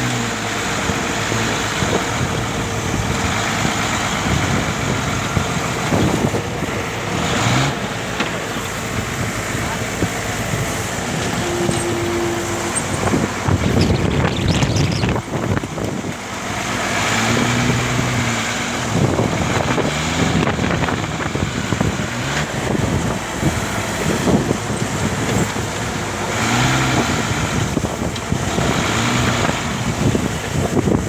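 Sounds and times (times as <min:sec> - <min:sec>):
truck engine running: 0:00.0 - 0:31.0
wind noise on microphone: 0:00.0 - 0:31.0.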